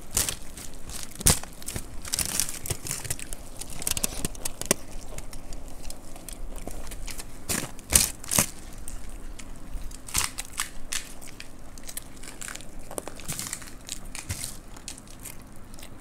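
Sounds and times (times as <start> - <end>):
people crunching crisp snacks: 0.0 - 16.0.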